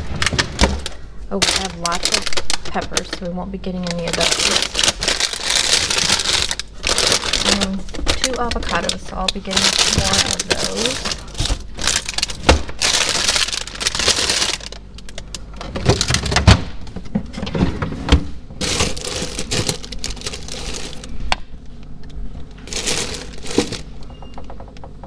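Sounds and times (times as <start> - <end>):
plastic bags crinkling: 0.0 - 16.5, 18.6 - 21.4, 22.5 - 24.1.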